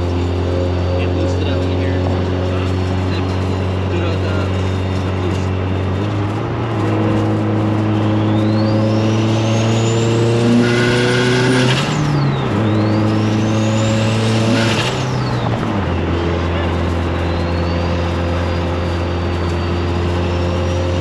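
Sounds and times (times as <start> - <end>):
car engine accelerating hard: 0.0 - 21.0
high turbo whine: 0.0 - 21.0.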